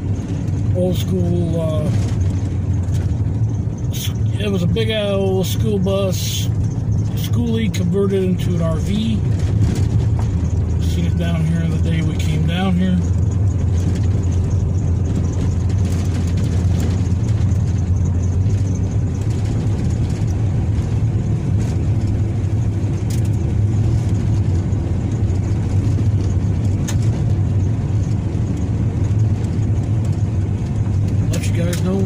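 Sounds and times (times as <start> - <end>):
car engine drone with road noise: 0.0 - 32.0.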